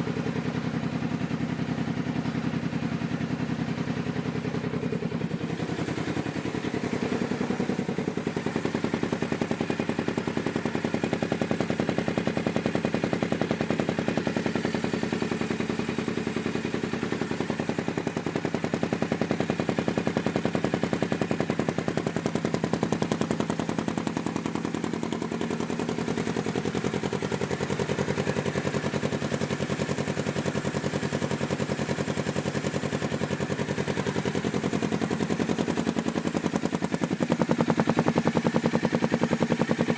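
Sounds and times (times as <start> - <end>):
engine running through exhaust: 2.0 - 39.9.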